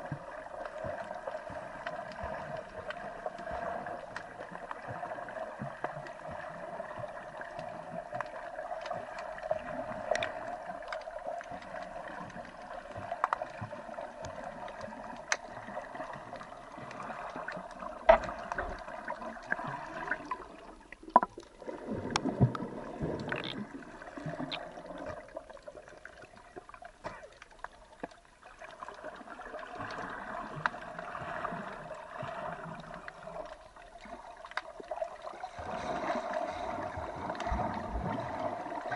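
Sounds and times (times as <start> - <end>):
low swirling rush of water: 0.0 - 38.9
water gurgling: 0.0 - 38.9.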